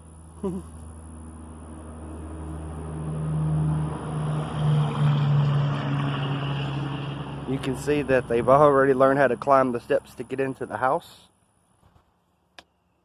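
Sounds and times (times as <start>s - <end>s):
vehicle engine hum: 0.0s - 12.8s.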